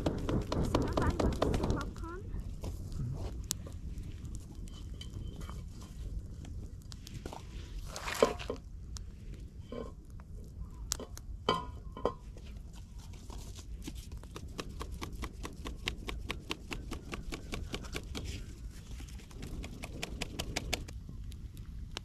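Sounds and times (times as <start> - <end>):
fire crackling and popping: 0.0 - 22.0
low wind rumble: 0.0 - 22.0.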